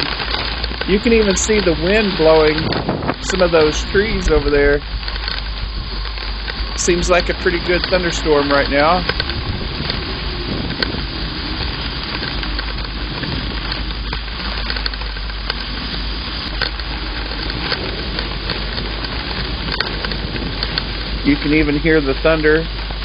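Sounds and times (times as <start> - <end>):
heavy rain hissing: 0.0 - 23.0
low thunder rumble: 0.0 - 23.0
wind: 0.0 - 23.0.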